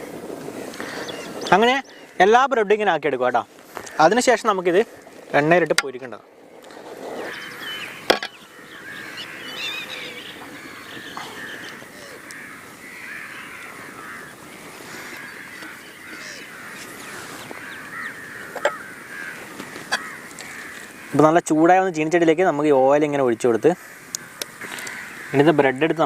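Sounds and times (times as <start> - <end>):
birds calling and chattering: 0.0 - 26.0.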